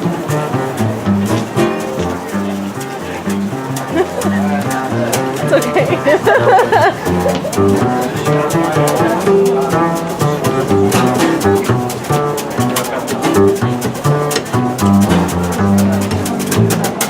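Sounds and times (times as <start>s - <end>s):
jazz guitar: 0.0s - 17.0s
steady beat: 0.0s - 17.0s
upright bass walking: 0.0s - 17.0s.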